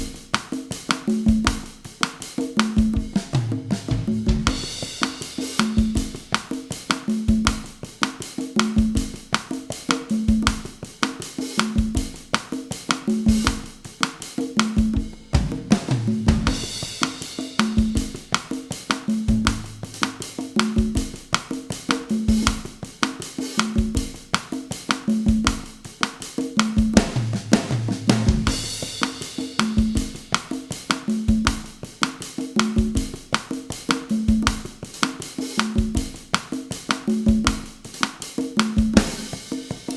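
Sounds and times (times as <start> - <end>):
conga tones: 0.0 - 39.9
drum kit bossa nova groove: 0.0 - 39.9.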